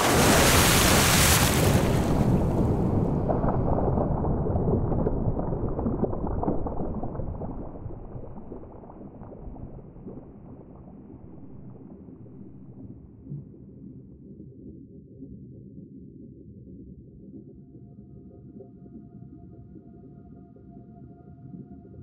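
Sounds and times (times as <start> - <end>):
muffled bubbling water: 0.0 - 22.0
faint low rumble: 1.6 - 22.0.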